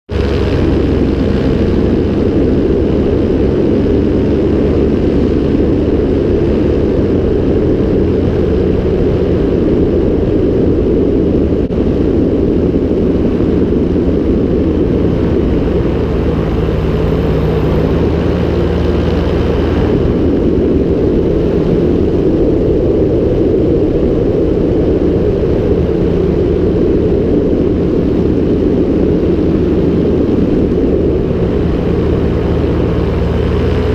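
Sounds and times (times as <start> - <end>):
propeller aircraft engine drone: 0.1 - 33.9
rushing air: 0.1 - 33.9.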